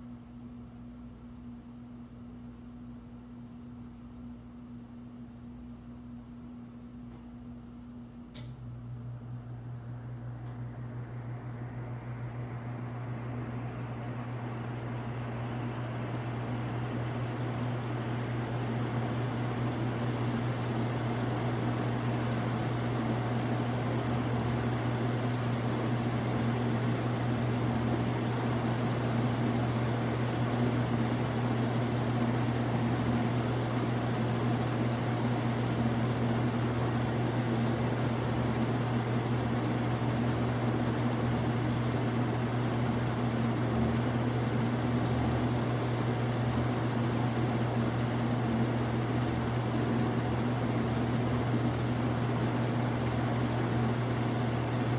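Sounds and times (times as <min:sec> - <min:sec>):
ceiling fan motor hum: 0:00.0 - 0:54.9
air rushing from fan blades: 0:08.4 - 0:54.9.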